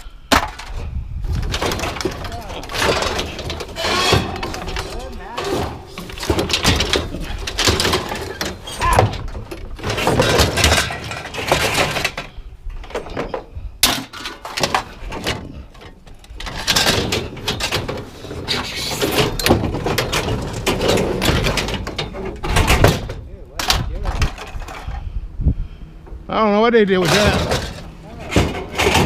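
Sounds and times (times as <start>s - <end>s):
scrap metal clanking and crashing: 0.3s - 25.1s, 27.0s - 29.0s.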